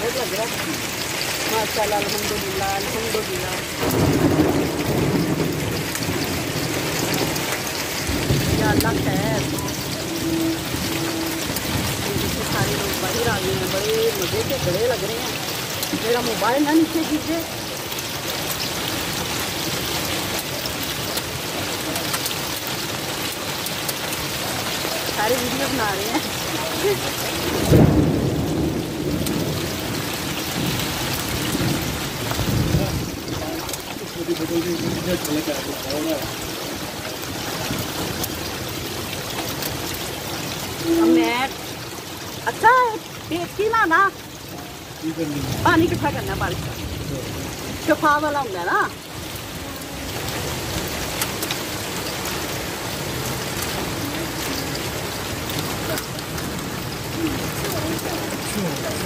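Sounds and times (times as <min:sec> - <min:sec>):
hail and rain on tin roof: 0:00.0 - 0:59.0
thunder rumbling: 0:00.0 - 0:59.0.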